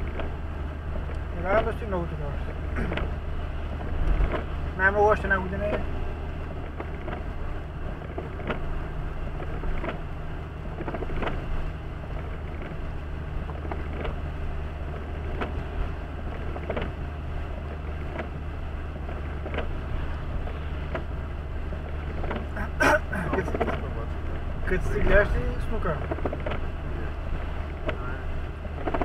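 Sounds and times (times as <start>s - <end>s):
car engine hum: 0.0s - 29.0s
windscreen wipers sweeping: 0.0s - 29.0s.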